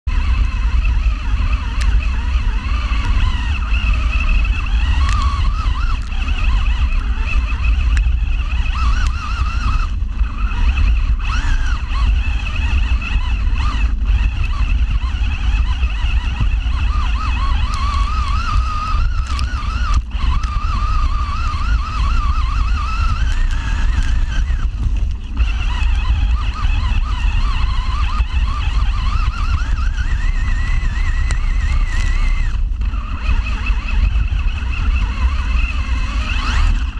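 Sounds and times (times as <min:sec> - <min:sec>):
chassis rumbling on rough ground: 0:00.1 - 0:36.9
toy car motor whining: 0:00.1 - 0:36.9.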